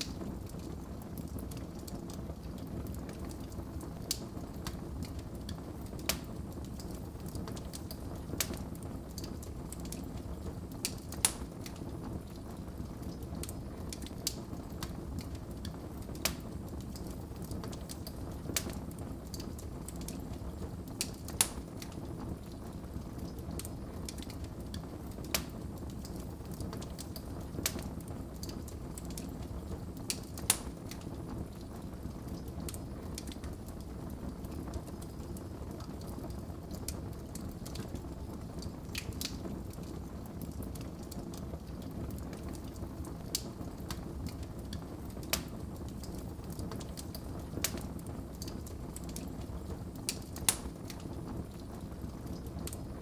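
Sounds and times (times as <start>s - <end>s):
fire flames rumbling: 0.0s - 53.0s
wood fire crackling and popping: 0.0s - 53.0s.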